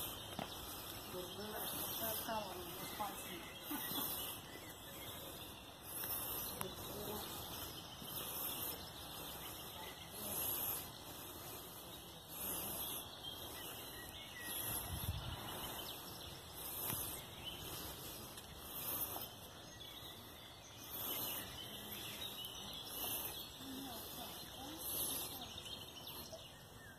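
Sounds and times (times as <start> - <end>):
bird chirps: 0.0 - 26.9
faint distant voices: 0.0 - 26.9.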